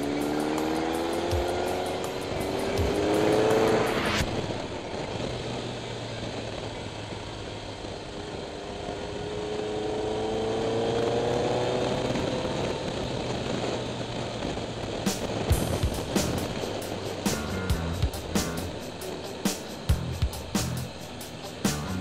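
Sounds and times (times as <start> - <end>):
motorcycle engine revving: 0.0 - 5.2, 9.0 - 22.0.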